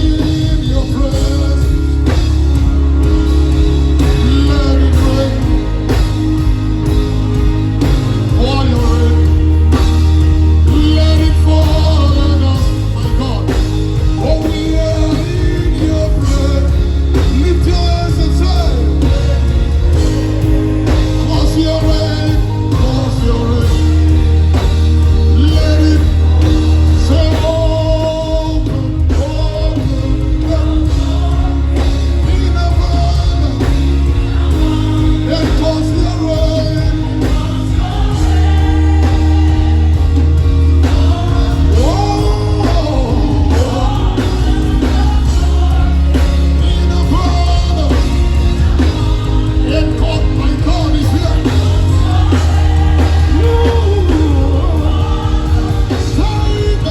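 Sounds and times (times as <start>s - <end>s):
bass and keyboard chords: 0.0s - 56.9s
person singing: 0.0s - 56.9s.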